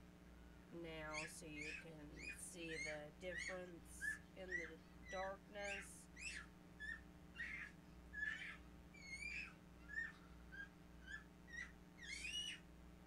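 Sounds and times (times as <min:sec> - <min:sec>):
steady low hum: 0:00.0 - 0:13.0
small bird chirping: 0:00.9 - 0:12.7.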